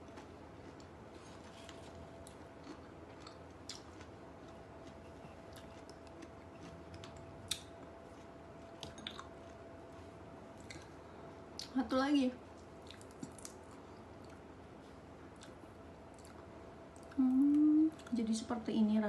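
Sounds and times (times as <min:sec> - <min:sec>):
person chewing: 0:00.0 - 0:09.6, 0:10.6 - 0:11.0, 0:12.6 - 0:18.1
faint steady hum: 0:00.0 - 0:19.0.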